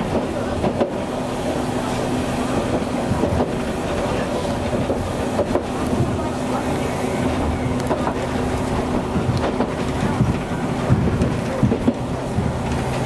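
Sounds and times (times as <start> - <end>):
streetcar rumble and hum: 0.0 - 13.0
wheels clicking over rail joints: 0.0 - 13.0.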